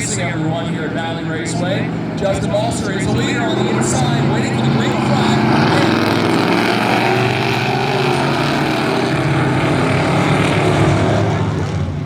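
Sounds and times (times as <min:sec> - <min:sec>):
race truck engines accelerating: 0:00.0 - 0:12.0.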